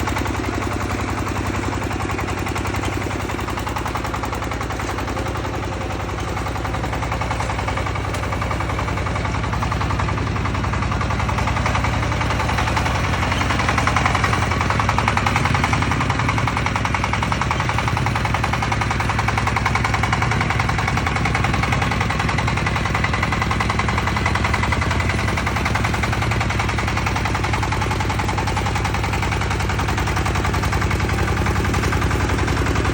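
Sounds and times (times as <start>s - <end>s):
small engine pulsing: 0.0s - 32.9s.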